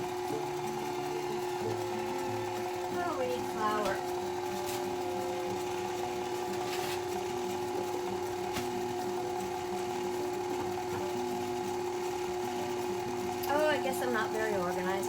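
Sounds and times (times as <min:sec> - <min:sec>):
electric mixer humming: 0:00.0 - 0:15.0.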